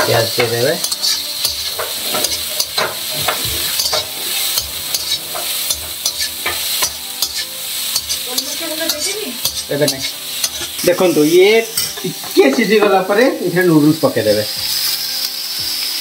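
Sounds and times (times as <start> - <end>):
metal spatula scraping wok: 0.0 - 13.4
vegetables sizzling in oil: 0.0 - 16.0.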